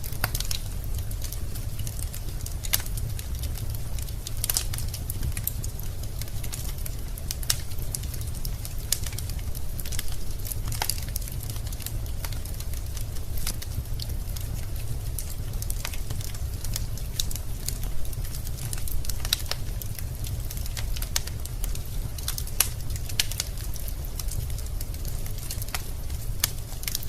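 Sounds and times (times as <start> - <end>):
burning wood crackling: 0.0 - 27.0
low rumble of flames: 0.0 - 27.0.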